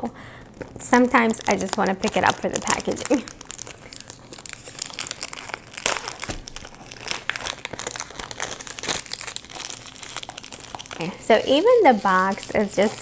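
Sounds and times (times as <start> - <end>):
packaging crinkling: 0.1 - 13.0.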